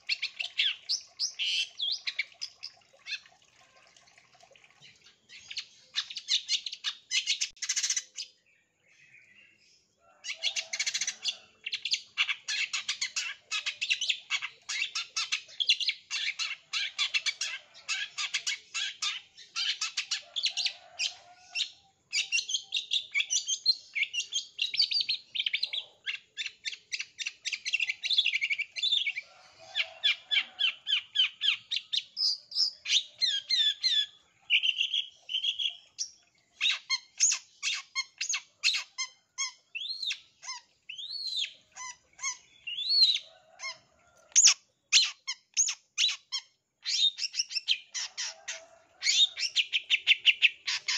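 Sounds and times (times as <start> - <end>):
bird singing fast chattering song: 0.0 - 3.2, 5.3 - 9.6, 10.2 - 20.8, 21.6 - 29.2, 29.8 - 43.3, 44.4 - 48.4, 49.1 - 50.9.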